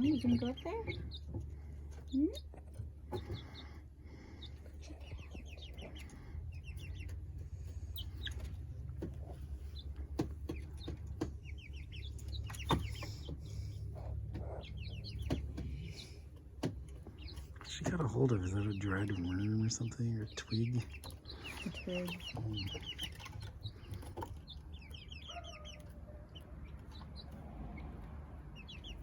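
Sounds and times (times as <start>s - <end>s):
chicks peeping and trilling: 0.0s - 29.0s.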